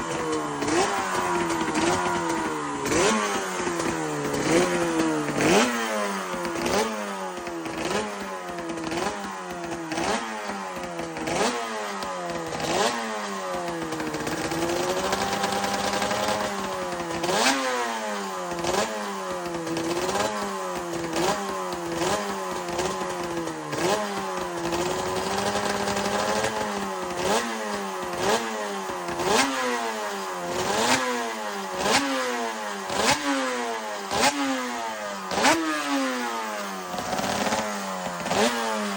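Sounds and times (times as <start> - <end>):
race motorcycle engine revving: 0.0 - 38.9.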